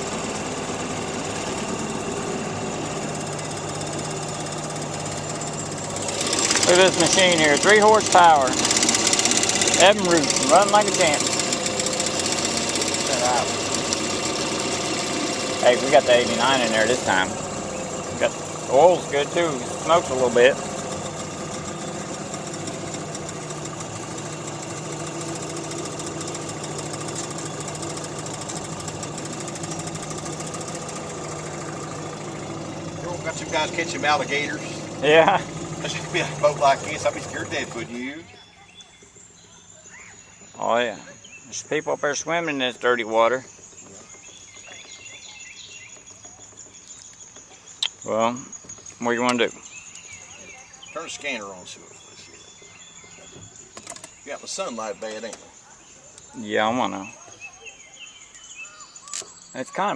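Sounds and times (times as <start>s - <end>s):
outboard motor putter: 0.0s - 59.9s.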